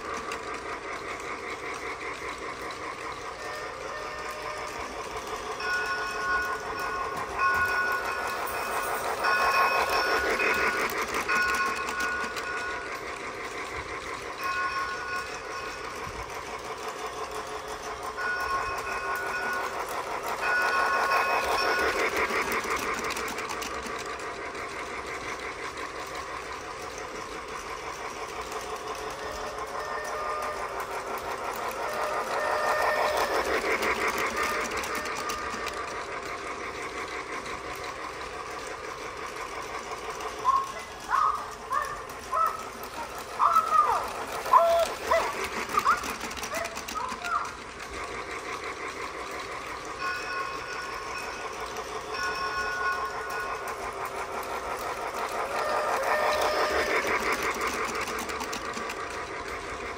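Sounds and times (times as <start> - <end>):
toy train motor whirr: 0.0 - 59.9
toy train wheel clatter: 0.0 - 59.9.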